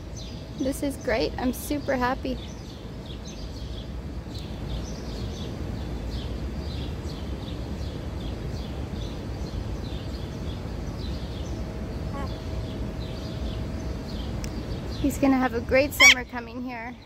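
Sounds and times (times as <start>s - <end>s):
low background rumble: 0.0s - 17.0s
small birds chirping: 0.0s - 17.0s.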